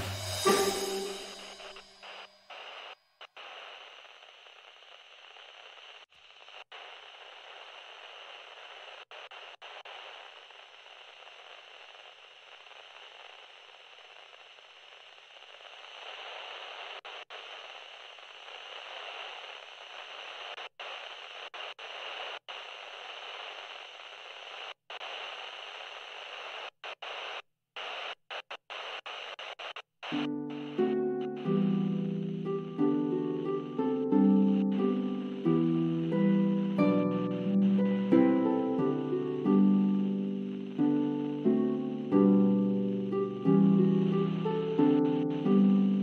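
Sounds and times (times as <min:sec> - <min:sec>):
static hiss: 0:00.0 - 0:46.0.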